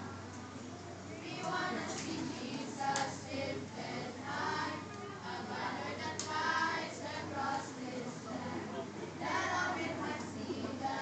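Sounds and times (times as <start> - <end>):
children's choir singing: 1.1 - 11.0.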